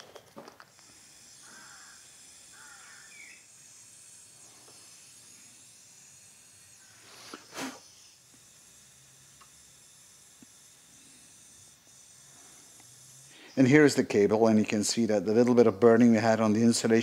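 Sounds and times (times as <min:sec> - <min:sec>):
faint soldering hiss: 0:00.0 - 0:17.0.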